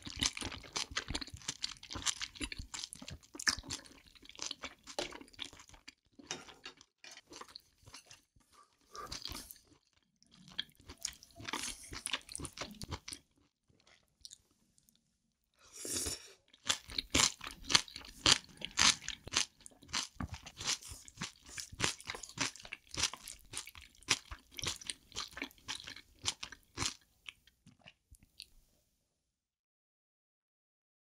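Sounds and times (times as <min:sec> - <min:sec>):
close chewing and crunching: 0:00.0 - 0:15.0, 0:15.8 - 0:28.5.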